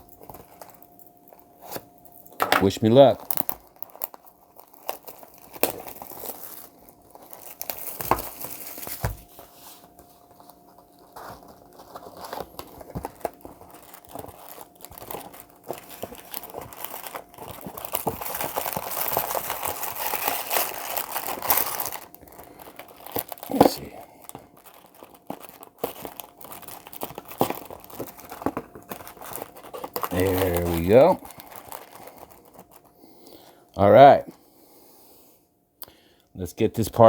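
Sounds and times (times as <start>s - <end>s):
plastic wrapping crinkling and tearing: 0.0s - 34.4s.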